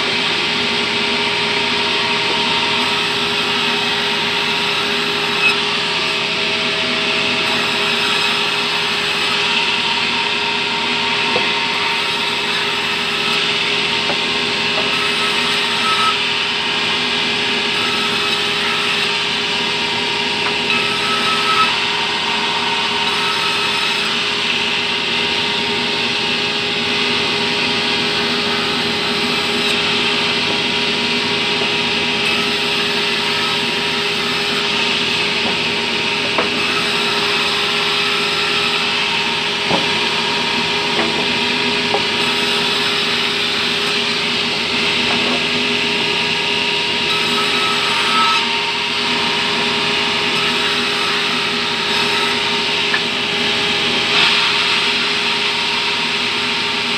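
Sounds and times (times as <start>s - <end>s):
machine hum: 0.0s - 56.0s
band saw rasping through log: 0.0s - 56.9s.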